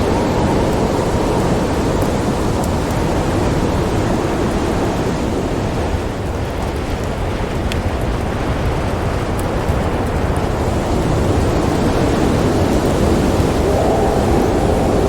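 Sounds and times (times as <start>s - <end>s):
faint fire crackles: 0.0s - 15.0s
snowstorm wind blowing: 0.0s - 15.0s.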